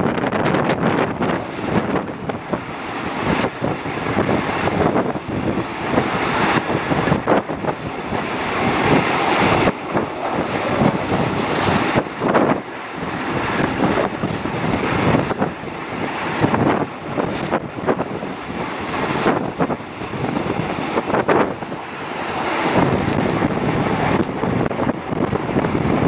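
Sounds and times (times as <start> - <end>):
train running on track: 0.0 - 26.0
wind buffeting microphone: 0.0 - 26.0.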